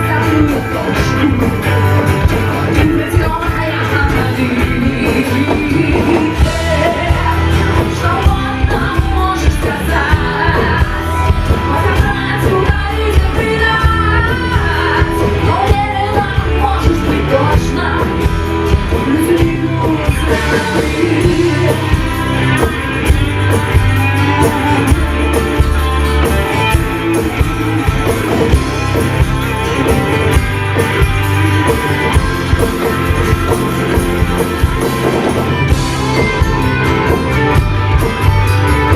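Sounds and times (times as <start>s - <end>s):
person singing: 0.0s - 37.6s
live rock band playing: 0.0s - 38.9s.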